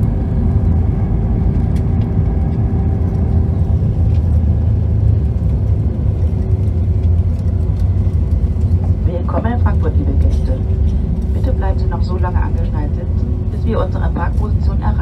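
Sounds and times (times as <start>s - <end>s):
deep rumble of engines and wheels: 0.0s - 15.0s
steady hum: 0.0s - 15.0s.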